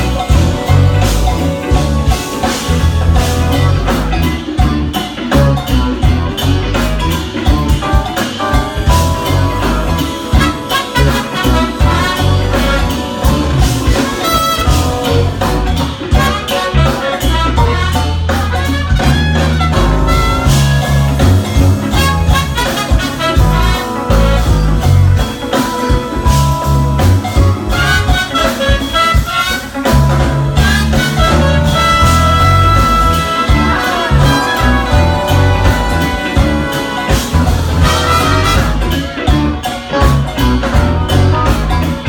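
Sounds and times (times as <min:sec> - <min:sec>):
busy bass line: 0:00.0 - 0:42.0
drum hits: 0:00.0 - 0:42.0
jazz fusion band playing: 0:00.0 - 0:42.0.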